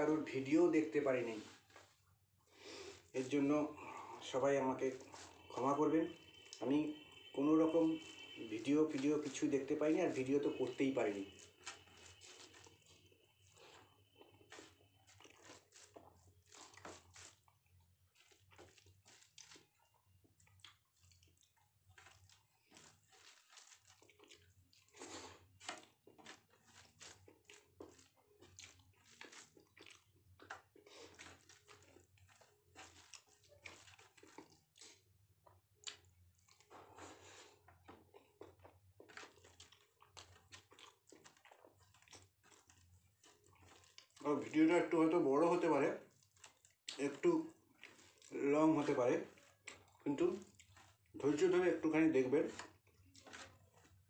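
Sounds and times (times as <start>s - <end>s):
chewing and wet mouth sounds: 0.1s - 54.0s.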